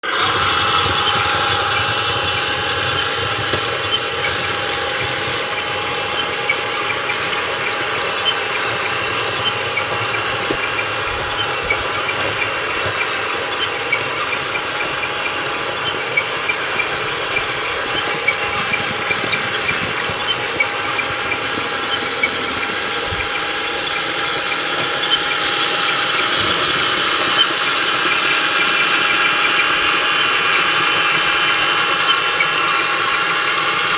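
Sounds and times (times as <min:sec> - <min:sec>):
toy motor and gearbox whine: 0:00.0 - 0:33.9
small ticks and rattles: 0:00.4 - 0:33.9.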